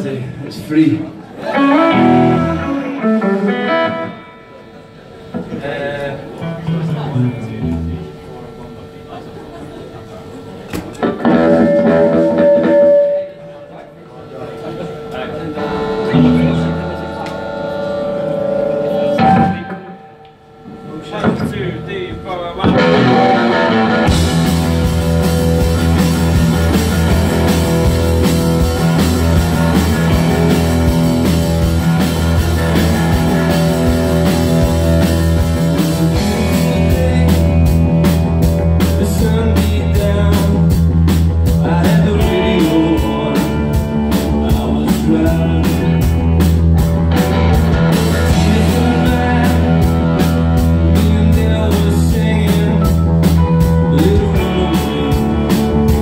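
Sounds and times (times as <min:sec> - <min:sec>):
live rock band playing: 0:01.4 - 0:05.4, 0:10.8 - 0:13.8, 0:15.5 - 0:56.0.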